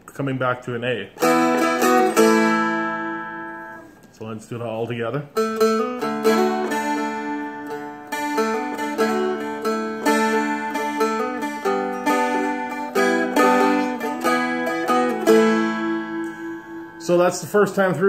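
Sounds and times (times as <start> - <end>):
dulcimer melody picked: 1.2 - 3.9, 5.4 - 18.0
open strings droning: 1.2 - 4.0, 5.3 - 18.0.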